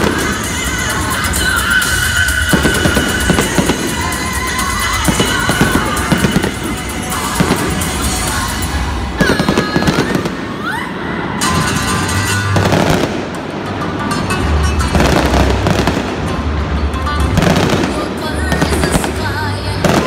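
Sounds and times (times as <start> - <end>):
fireworks popping and crackling: 0.0 - 10.6, 11.4 - 14.3, 14.9 - 16.3, 17.3 - 20.0
music playing: 0.0 - 20.0.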